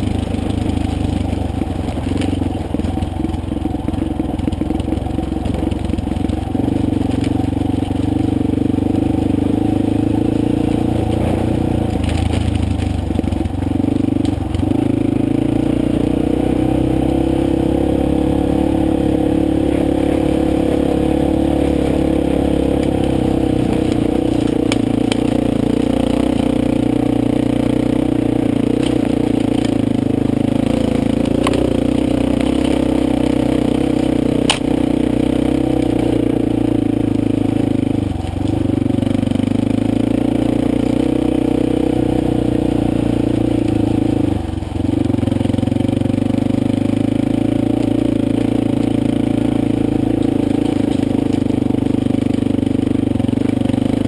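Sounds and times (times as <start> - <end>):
stones crunching under tyres: 0.0 - 15.4, 16.6 - 54.0
motorcycle engine running: 0.0 - 54.0.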